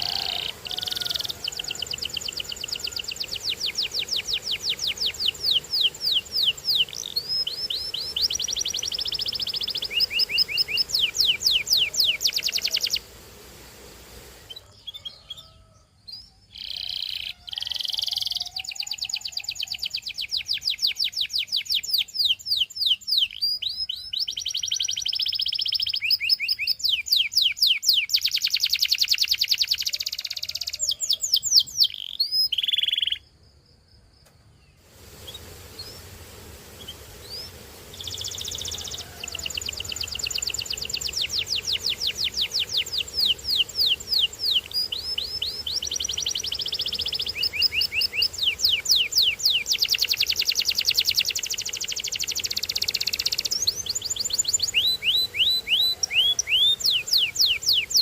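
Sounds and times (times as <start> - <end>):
canary singing trilled phrases: 0.0 - 13.1, 14.5 - 33.3, 36.8 - 58.0
steady background hiss: 0.0 - 58.0.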